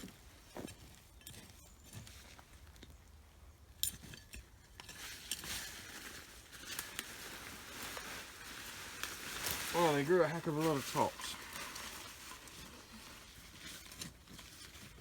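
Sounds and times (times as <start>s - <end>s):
rustling and crunching in soil: 0.0s - 15.0s.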